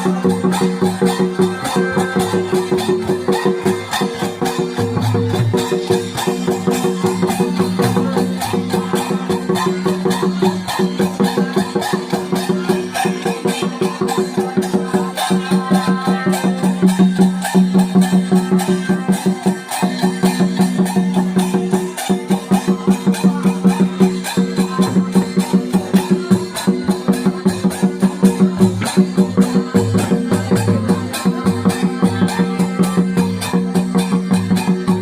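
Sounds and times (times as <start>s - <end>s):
fast drumbeats: 0.0s - 35.0s.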